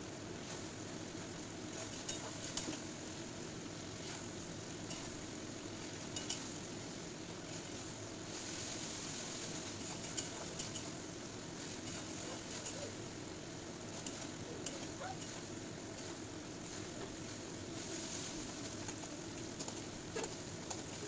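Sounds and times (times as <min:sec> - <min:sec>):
paste sizzling in a pan: 0:00.3 - 0:19.4.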